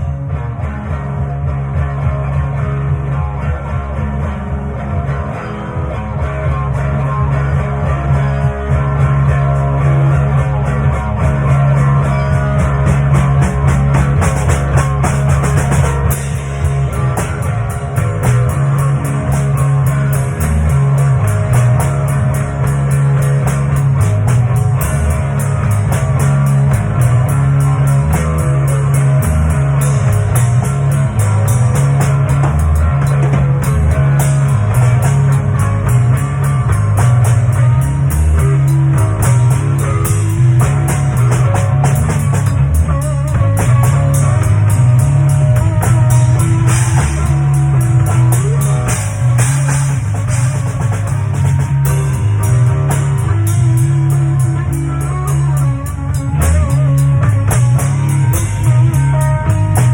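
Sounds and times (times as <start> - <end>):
rock music: 0.0 - 59.9.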